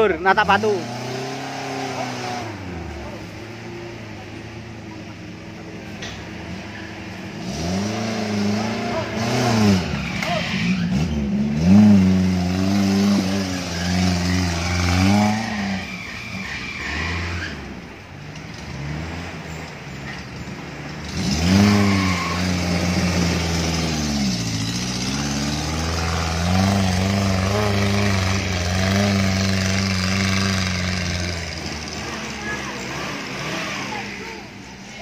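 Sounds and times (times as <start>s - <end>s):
off-road vehicle engine revving: 0.0s - 35.0s.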